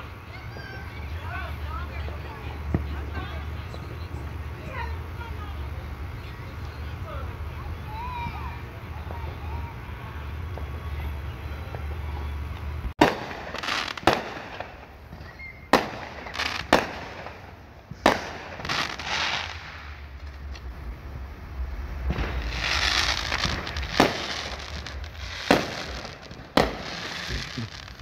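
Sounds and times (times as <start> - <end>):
fireworks bangs: 0.0 - 28.0
hissing crackle of fireworks: 0.0 - 28.0.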